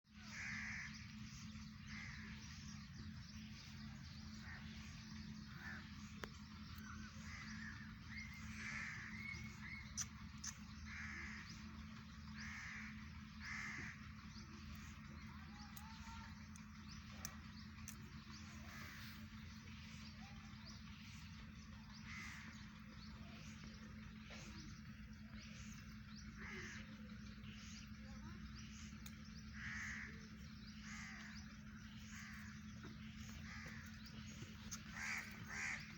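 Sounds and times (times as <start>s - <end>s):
steady low hum: 0.1s - 35.9s.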